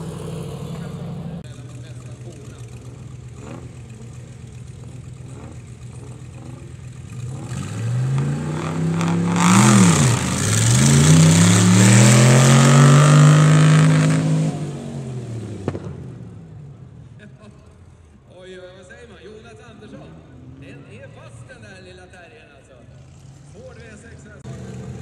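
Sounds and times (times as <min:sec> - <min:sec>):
tractor engines revving: 0:00.0 - 0:18.2, 0:22.8 - 0:25.0.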